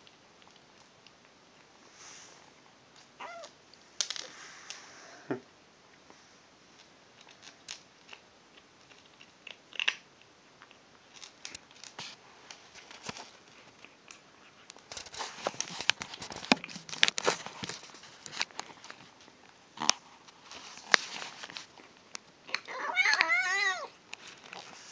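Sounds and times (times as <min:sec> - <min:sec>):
kitten crunching dry kibble: 0:00.0 - 0:01.8, 0:06.7 - 0:24.9.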